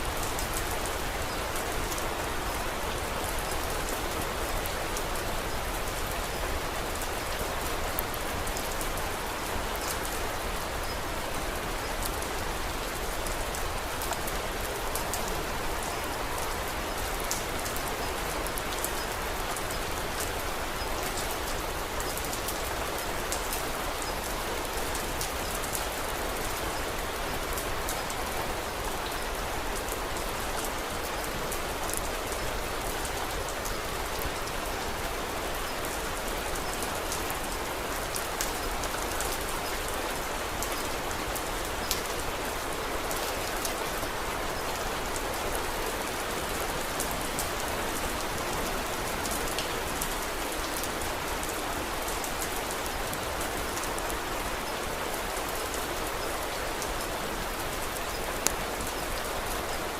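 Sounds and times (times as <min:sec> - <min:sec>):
crisp ticks of raindrops: 0:00.0 - 0:59.9
rain falling: 0:00.0 - 0:59.9.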